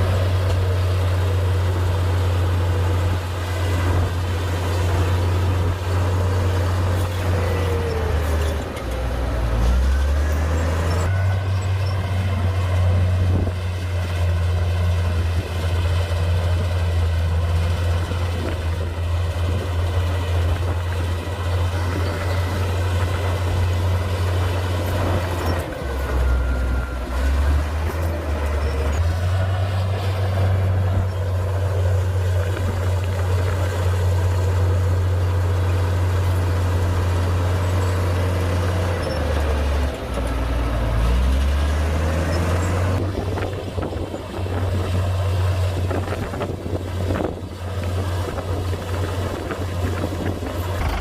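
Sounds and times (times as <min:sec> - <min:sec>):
bulldozer diesel engine drone: 0:00.0 - 0:51.0.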